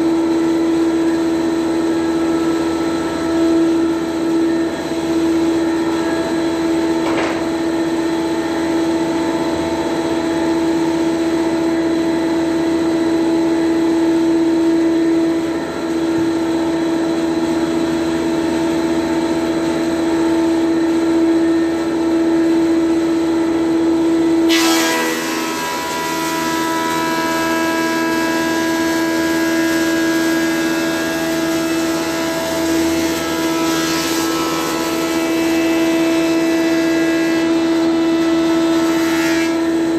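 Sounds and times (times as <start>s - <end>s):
thickness planer humming: 0.0s - 39.9s.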